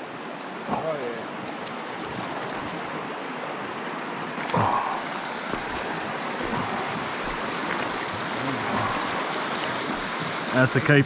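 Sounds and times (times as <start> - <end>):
stream rippling over stones: 0.0 - 11.0.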